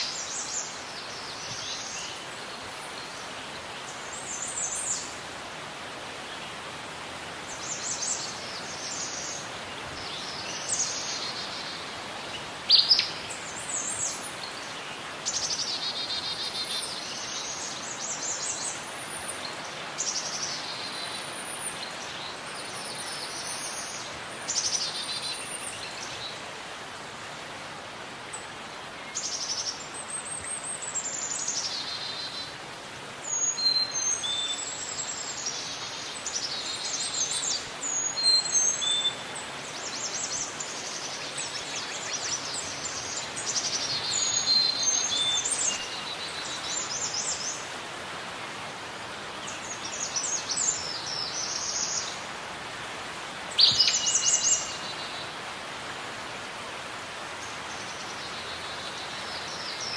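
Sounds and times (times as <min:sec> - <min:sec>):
steady background hiss: 0:00.0 - 0:59.9
birds singing: 0:07.4 - 0:26.8, 0:28.2 - 0:59.9.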